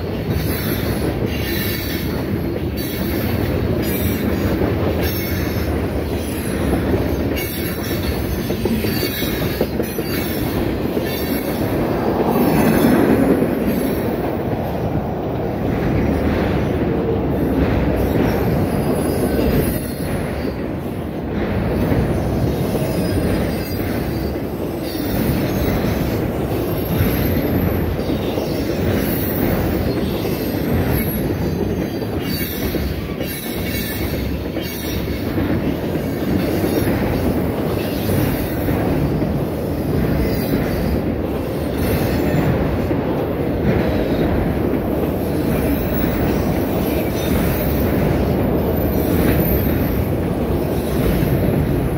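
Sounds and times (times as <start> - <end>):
freight train wheels rumbling: 0.0 - 51.9
train cars clanking: 0.0 - 51.9.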